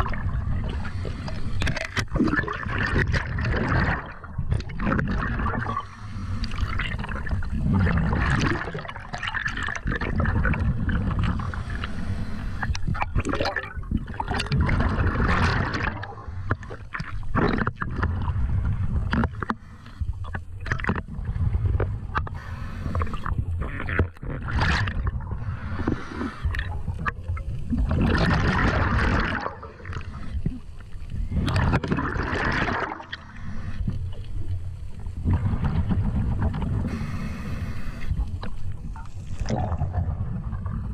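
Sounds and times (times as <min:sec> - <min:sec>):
constant low rumble: 0:00.0 - 0:32.0, 0:33.0 - 0:40.9
water rushing and gurgling: 0:00.0 - 0:40.9.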